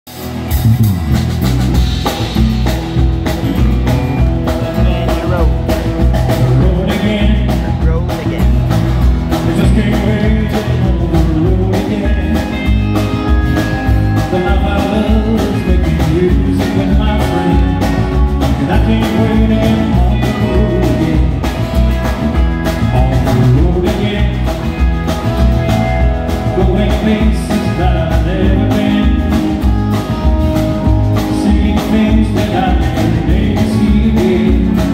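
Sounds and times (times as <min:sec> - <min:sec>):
bass guitar: 0:00.0 - 0:34.9
acoustic guitar: 0:00.1 - 0:34.9
drum kit beat: 0:00.1 - 0:34.9
electric guitars: 0:00.1 - 0:34.9.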